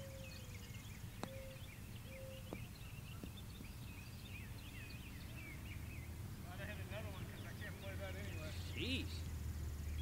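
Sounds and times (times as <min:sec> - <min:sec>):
low outdoor rumble: 0:00.0 - 0:10.0
songbirds chirping: 0:00.0 - 0:10.0.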